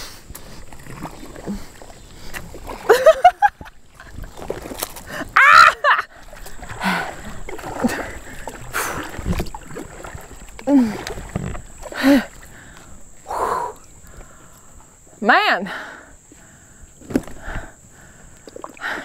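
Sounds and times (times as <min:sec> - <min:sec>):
paddle strokes splashing water: 0:00.0 - 0:15.1, 0:16.3 - 0:19.0
water sloshing around hull: 0:00.0 - 0:19.0.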